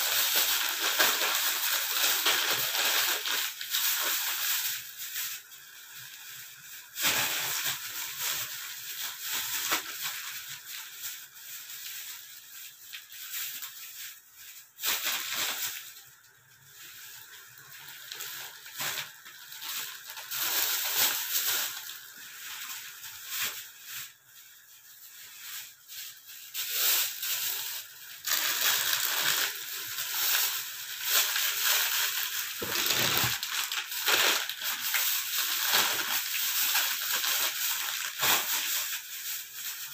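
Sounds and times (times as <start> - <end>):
plastic bags rustling: 0.0 - 39.9.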